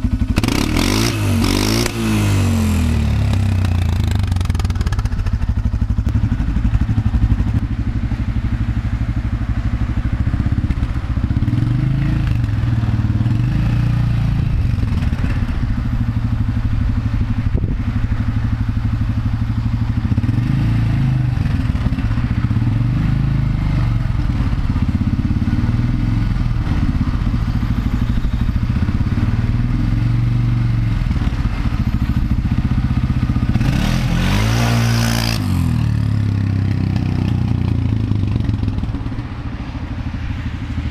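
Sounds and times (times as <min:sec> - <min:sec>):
atv engine revving: 0:00.0 - 0:39.4.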